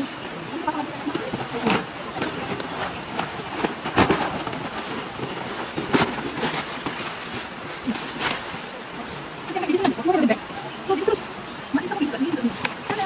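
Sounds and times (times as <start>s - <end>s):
camping gear rustling: 0.5s - 13.0s.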